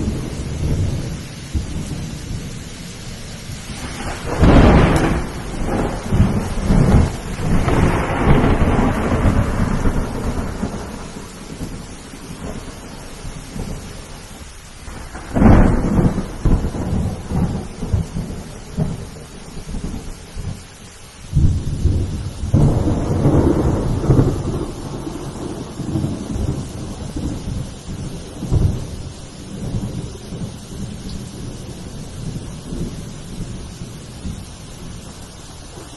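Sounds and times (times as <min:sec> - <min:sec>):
rolling thunder rumble: 0:00.0 - 0:20.6, 0:21.3 - 0:35.9
steady rain: 0:00.0 - 0:35.9
thunder clap: 0:03.6 - 0:14.0, 0:14.8 - 0:20.6, 0:21.3 - 0:35.9.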